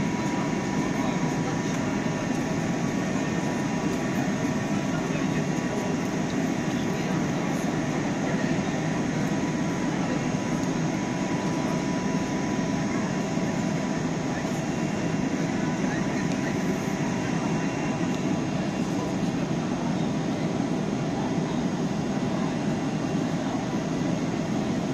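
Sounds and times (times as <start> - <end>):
train hum and hiss: 0.0 - 24.9.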